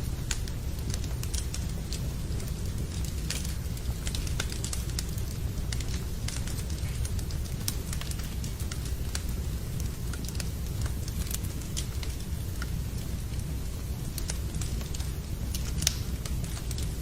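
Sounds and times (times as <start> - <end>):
rain: 0.0 - 17.0
wood fire crackling: 0.0 - 17.0.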